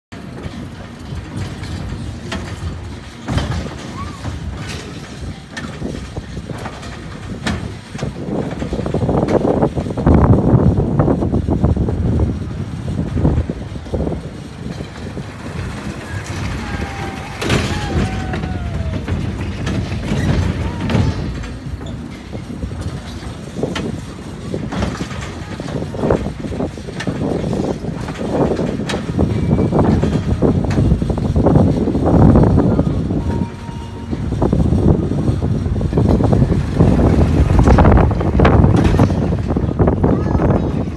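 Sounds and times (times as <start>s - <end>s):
roller coaster rolling on track: 0.1s - 40.9s.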